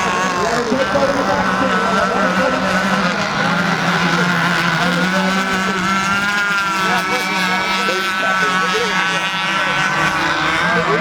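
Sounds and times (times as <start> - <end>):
model boat motors whining: 0.0 - 11.0.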